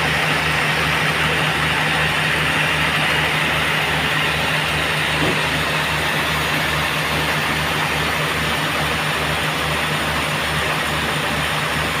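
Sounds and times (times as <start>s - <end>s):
sawmill machinery throbbing: 0.0s - 12.0s.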